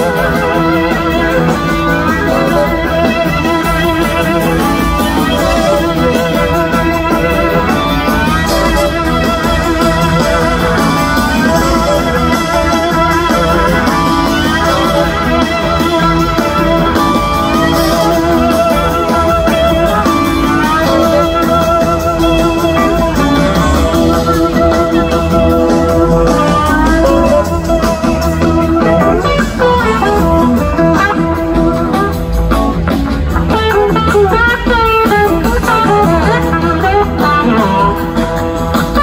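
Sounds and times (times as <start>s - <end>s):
electric guitar lead lines: 0.0s - 39.0s.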